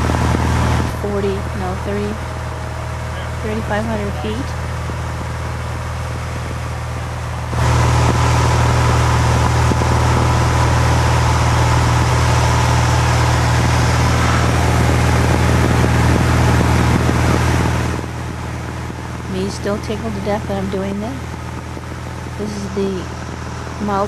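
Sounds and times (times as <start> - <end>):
aircraft engine droning in cabin: 0.0 - 24.0.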